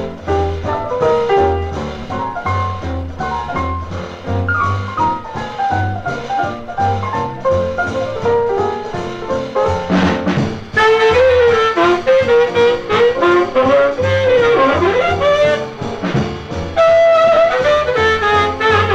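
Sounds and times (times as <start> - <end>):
bass line: 0.0 - 18.9
jazz horn melody: 0.0 - 18.9.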